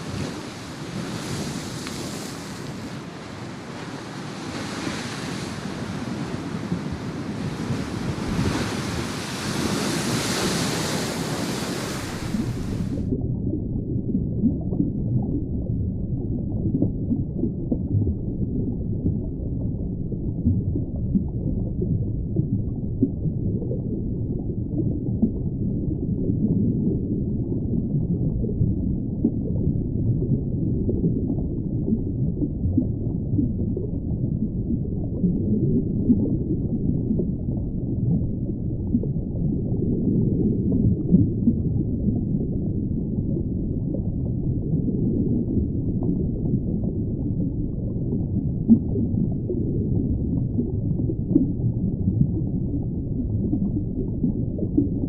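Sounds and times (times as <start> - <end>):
muffled rushing water: 0.0 - 55.0.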